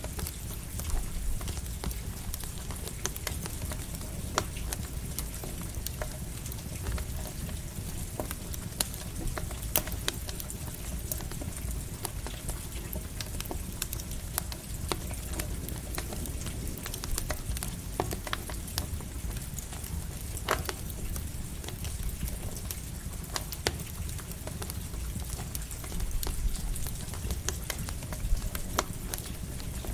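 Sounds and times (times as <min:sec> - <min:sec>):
campfire crackling: 0:00.0 - 0:29.9
light rain falling: 0:00.0 - 0:29.9.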